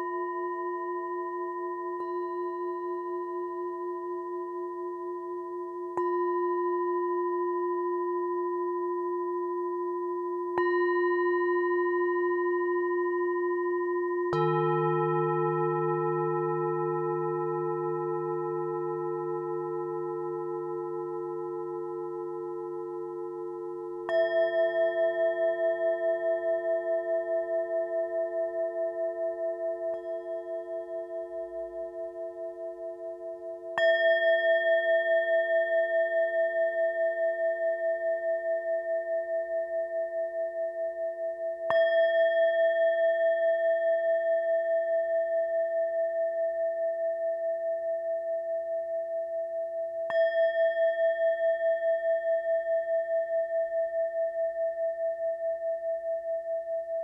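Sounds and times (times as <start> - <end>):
deeper bowls sounding: 0.0 - 57.0
singing bowls struck and ringing: 0.0 - 57.0.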